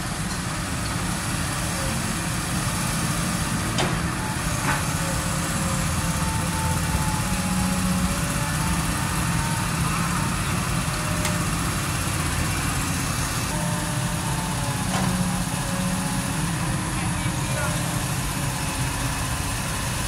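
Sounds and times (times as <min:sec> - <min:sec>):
heavy diesel engines running: 0:00.0 - 0:20.0.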